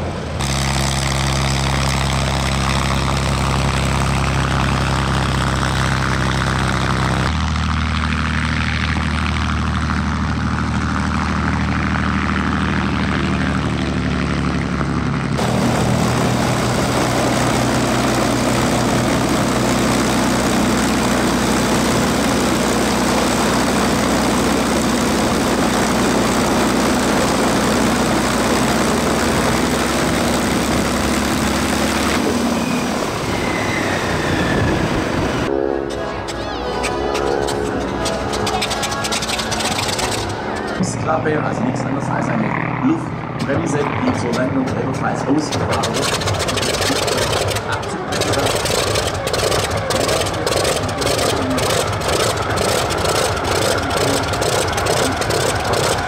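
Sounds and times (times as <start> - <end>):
propeller aircraft engine running: 0.0 - 56.0.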